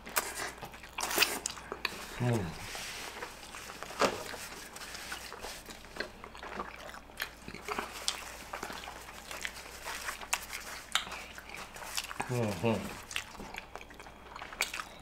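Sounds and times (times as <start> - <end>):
chewing and mouth smacks: 0.0 - 2.0, 3.2 - 15.0.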